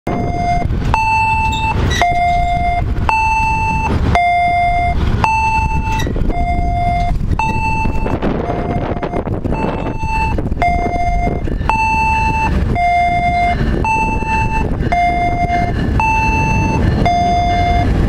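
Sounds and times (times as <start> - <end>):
diesel locomotive rumble: 0.0 - 18.0
electronic two-tone warning: 0.1 - 18.0.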